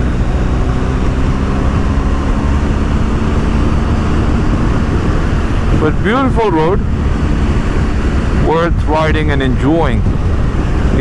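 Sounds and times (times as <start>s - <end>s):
motorcycle engine cruising: 0.0s - 11.0s
wind on microphone: 0.0s - 11.0s.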